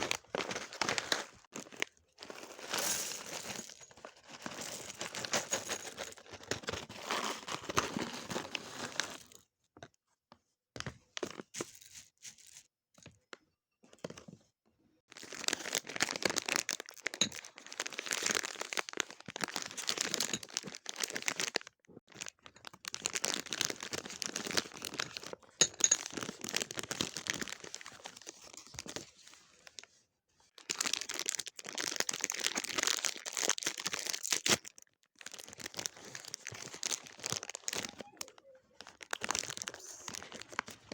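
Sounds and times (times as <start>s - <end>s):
plastic wrappers crinkling: 0.0s - 9.3s, 15.1s - 29.8s, 30.6s - 40.9s.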